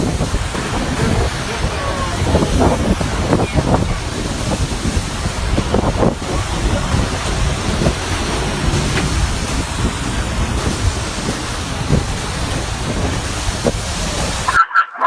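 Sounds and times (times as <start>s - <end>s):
wind buffeting microphone: 0.0s - 14.6s.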